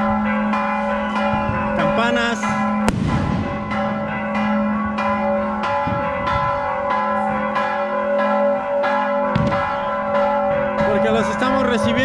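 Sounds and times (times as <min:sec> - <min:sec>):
church bells pealing: 0:00.0 - 0:12.0.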